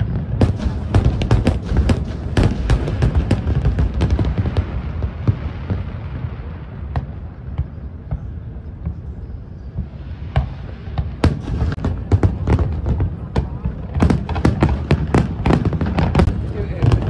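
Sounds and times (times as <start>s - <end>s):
fireworks bangs: 0.0s - 17.0s
fireworks rumble: 0.0s - 17.0s.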